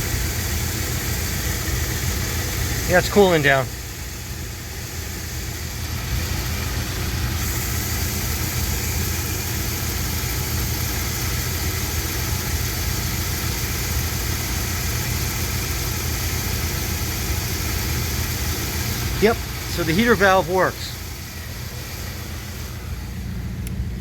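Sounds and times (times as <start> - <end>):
steady high hiss: 0.0 - 24.0
truck engine idling: 0.0 - 24.0.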